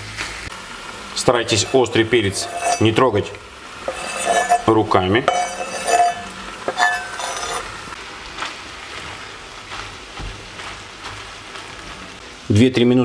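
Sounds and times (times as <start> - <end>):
faint sizzle of frying: 0.0 - 13.0
spatula stirring in pan: 1.3 - 12.4.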